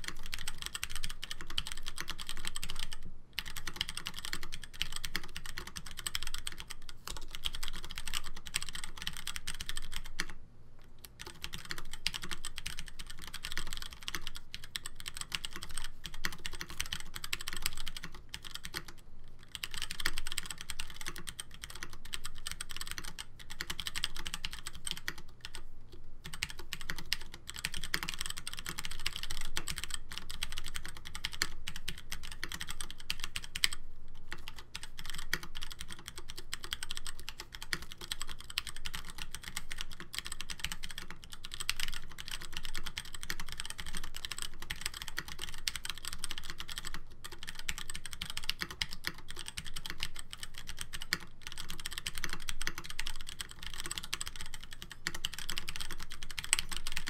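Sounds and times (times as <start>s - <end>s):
mechanical keyboard typing: 0.0s - 10.4s, 11.1s - 25.6s, 26.2s - 57.0s.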